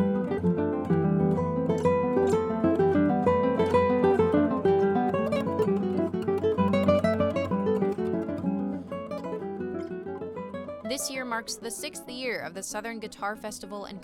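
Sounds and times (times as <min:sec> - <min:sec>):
classical guitar plucked notes: 0:00.0 - 0:13.7.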